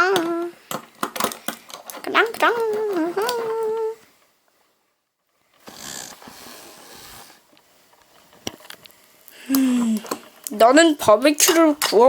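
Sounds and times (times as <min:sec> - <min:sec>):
plastic toys rustling and scraping: 0:00.1 - 0:04.0, 0:04.6 - 0:08.9, 0:09.7 - 0:12.0.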